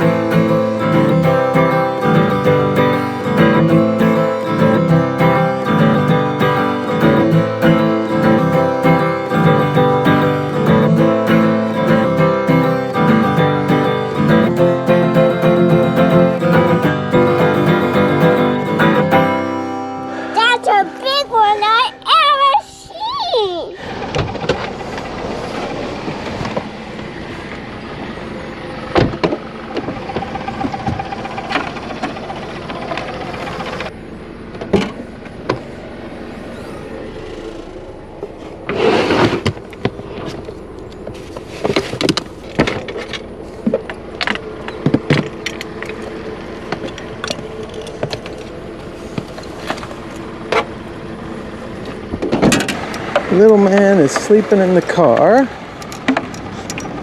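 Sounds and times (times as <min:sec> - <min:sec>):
car road noise: 0:00.0 - 0:57.0.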